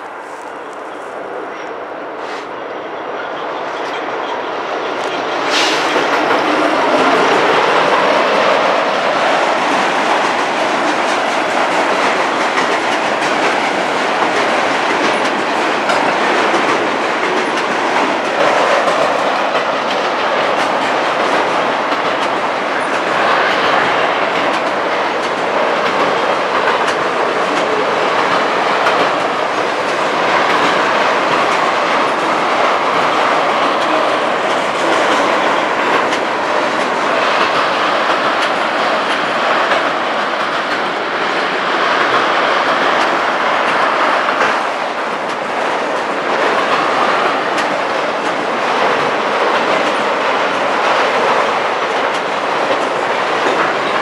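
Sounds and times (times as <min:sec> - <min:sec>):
diesel locomotive approaching: 0:00.0 - 0:54.0.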